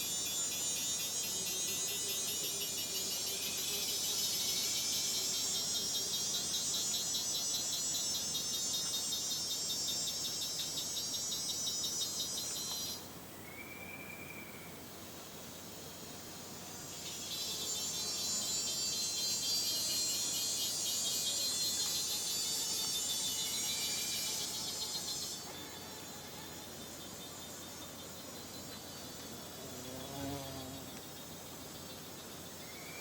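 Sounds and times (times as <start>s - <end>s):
crickets chirping in rapid pulses: 0.0s - 33.0s.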